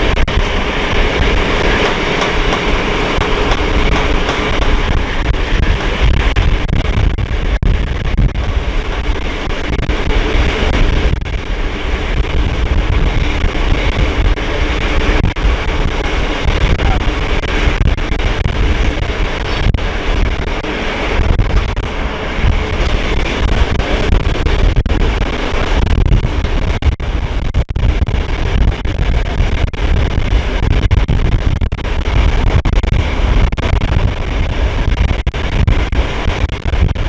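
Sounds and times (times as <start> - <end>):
diesel engine hum: 0.0 - 37.0
train wheels rumbling on rails: 0.0 - 37.0.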